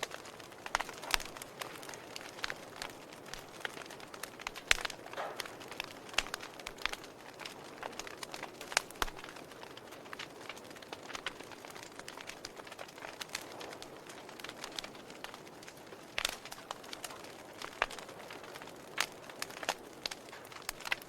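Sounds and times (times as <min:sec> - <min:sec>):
fire pops and snaps: 0:00.0 - 0:21.0
soft steady hiss: 0:00.0 - 0:21.0
wood fire crackling: 0:00.0 - 0:21.0.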